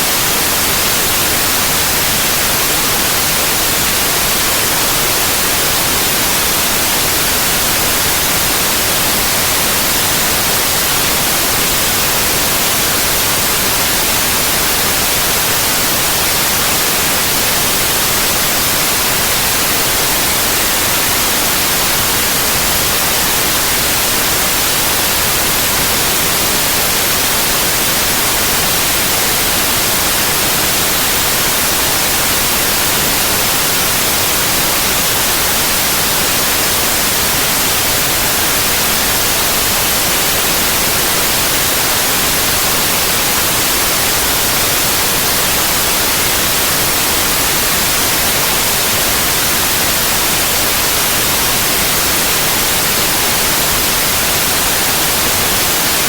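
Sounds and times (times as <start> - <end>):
loud white noise hiss: 0.0 - 56.0.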